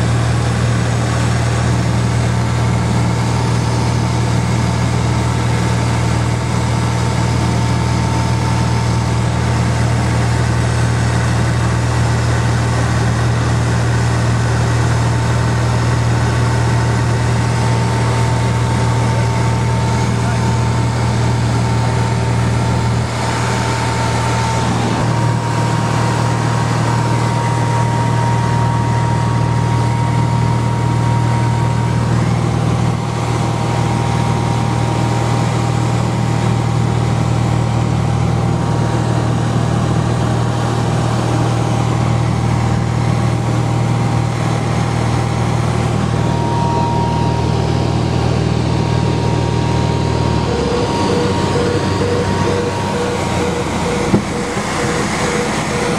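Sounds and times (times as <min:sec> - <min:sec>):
propeller plane engine drone: 0:00.0 - 0:55.9.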